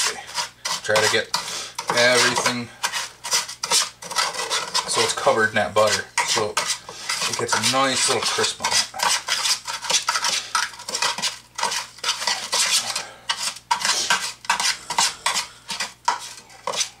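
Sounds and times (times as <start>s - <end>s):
utensil scraping metal pan: 0.0s - 17.0s.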